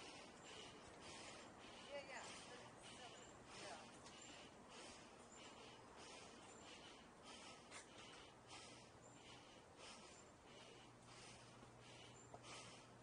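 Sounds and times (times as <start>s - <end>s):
person breathing rhythmically: 0.0s - 13.0s.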